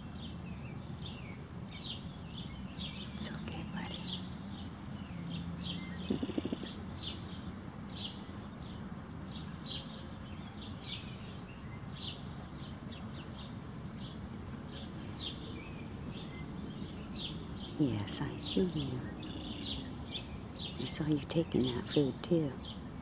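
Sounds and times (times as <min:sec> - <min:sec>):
bird chirping: 0:00.0 - 0:22.9.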